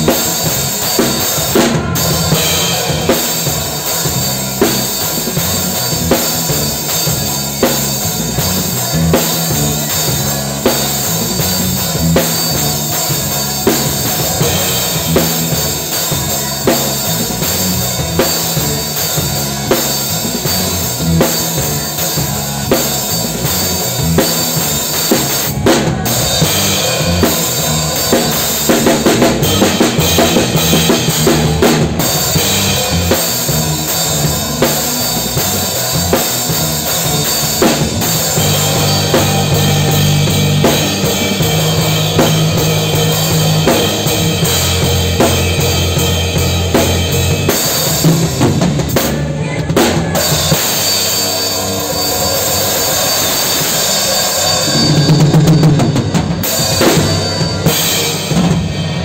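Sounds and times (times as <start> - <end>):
low bass notes: 0.0 - 52.8
drum kit playing: 0.0 - 59.0.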